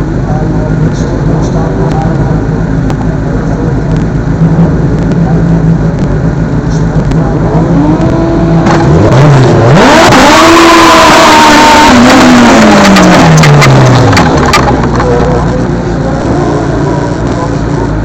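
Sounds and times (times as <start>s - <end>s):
race car engine idling and revving: 0.0s - 18.0s.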